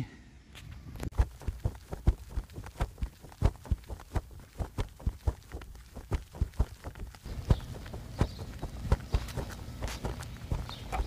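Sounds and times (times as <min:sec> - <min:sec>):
brisk footsteps: 0:01.0 - 0:11.0.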